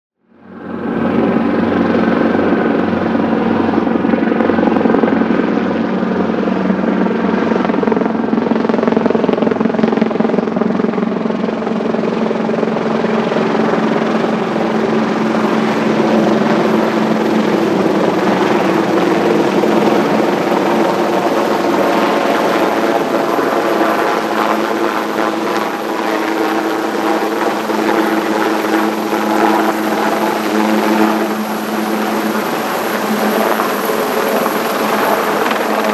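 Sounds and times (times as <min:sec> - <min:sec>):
high turbine whine: 0:00.3 - 0:35.9
helicopter rotor beating: 0:00.4 - 0:35.9.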